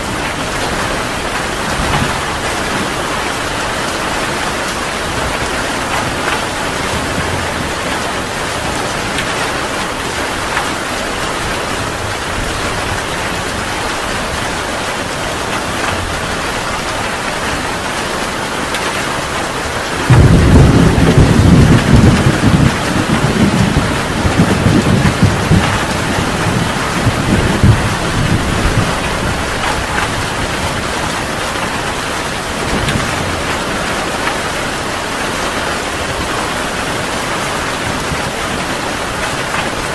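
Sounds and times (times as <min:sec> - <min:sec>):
thunder rumbling: 0:00.0 - 0:17.9, 0:19.2 - 0:36.3
heavy rain falling: 0:00.0 - 0:39.9.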